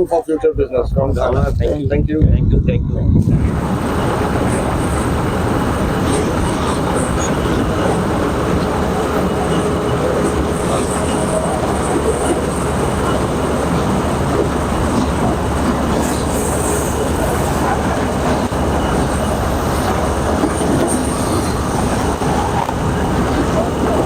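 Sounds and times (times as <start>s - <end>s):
combine harvester running: 3.3s - 24.0s.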